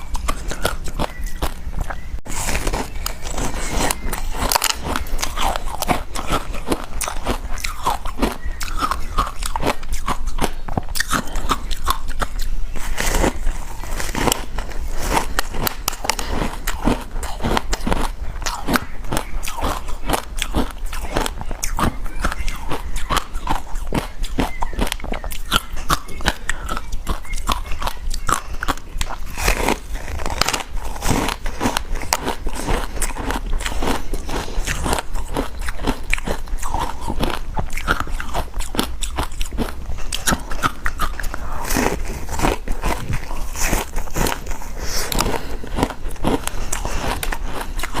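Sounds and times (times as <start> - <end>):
ice crunching between teeth: 0.0 - 48.0.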